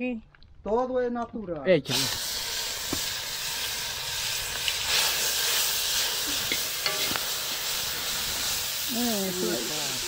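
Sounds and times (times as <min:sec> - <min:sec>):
food sizzling in hot oil: 0:01.9 - 0:10.0.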